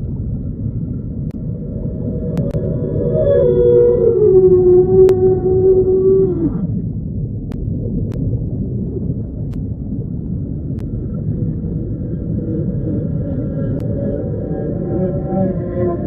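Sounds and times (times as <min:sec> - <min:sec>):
low rumbling growl: 0:00.0 - 0:16.0.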